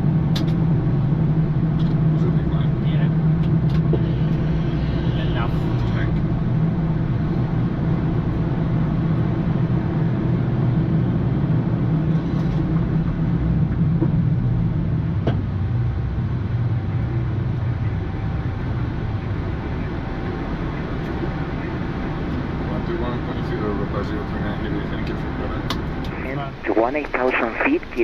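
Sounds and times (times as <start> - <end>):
aircraft cockpit rumble: 0.0 - 28.0.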